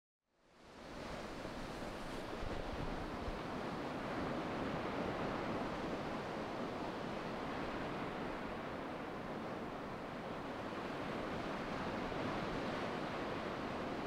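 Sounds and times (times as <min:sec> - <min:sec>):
ocean waves breaking on beach: 0:00.6 - 0:14.0.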